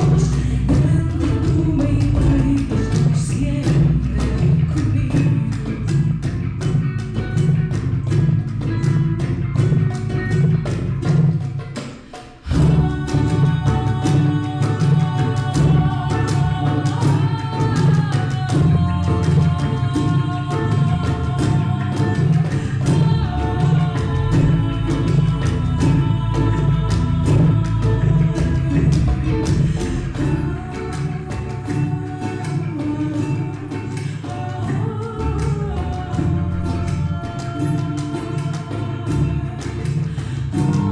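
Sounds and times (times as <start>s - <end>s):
low bass: 0.0s - 11.6s, 12.4s - 40.9s
cajon beat: 0.0s - 40.9s
singing: 0.0s - 40.9s
ukulele: 0.0s - 40.9s.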